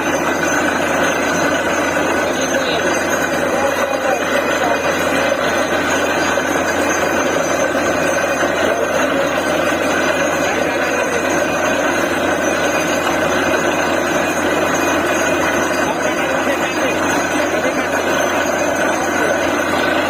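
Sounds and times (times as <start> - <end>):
drilling rig engine running: 0.0 - 20.0.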